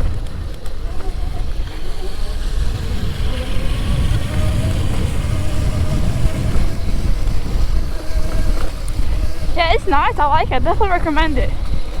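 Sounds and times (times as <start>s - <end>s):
electric motor whining: 0.0s - 12.0s
wind buffeting microphone: 0.0s - 12.0s.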